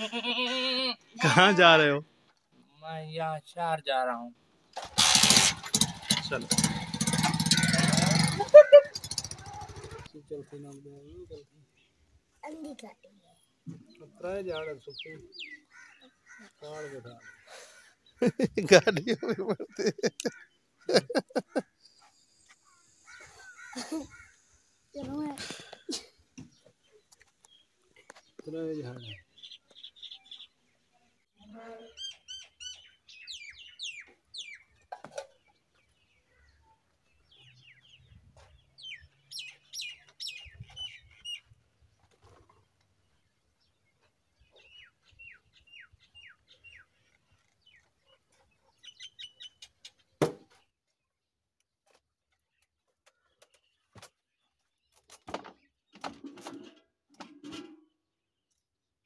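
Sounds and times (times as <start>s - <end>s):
small birds chirping: 5.9s - 51.2s, 51.8s - 56.0s.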